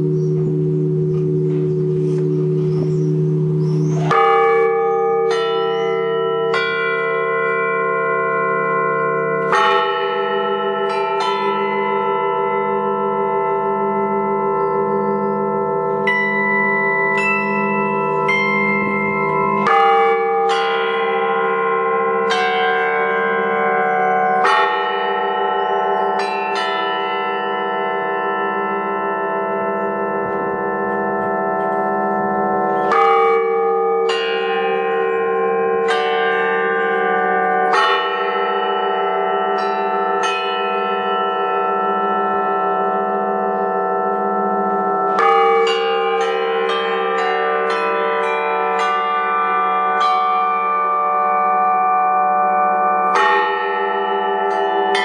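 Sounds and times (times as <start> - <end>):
bells ringing: 0.0 - 55.0
hum of large bells: 0.0 - 55.0.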